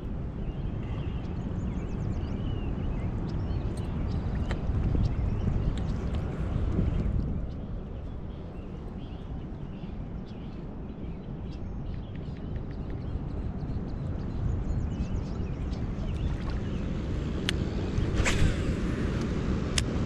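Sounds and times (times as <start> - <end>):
low rumbling outdoor noise: 0.0 - 20.0.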